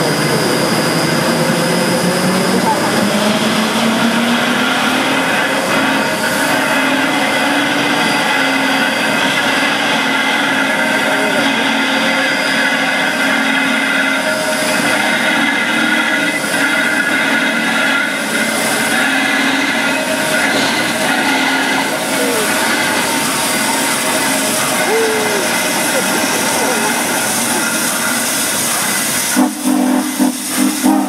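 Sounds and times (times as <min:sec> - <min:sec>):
steam locomotive hissing: 0:00.0 - 0:31.0.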